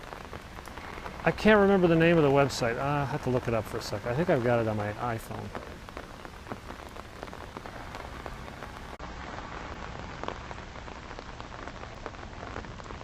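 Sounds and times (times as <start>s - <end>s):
heavy rain: 0.0s - 13.0s
raindrop ticks close by: 0.0s - 13.0s.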